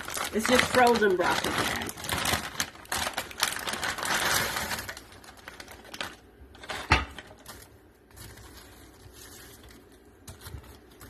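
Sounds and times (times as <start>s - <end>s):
frozen vegetables rattling into pot: 0.0s - 11.0s
plastic bag crinkling: 0.0s - 11.0s.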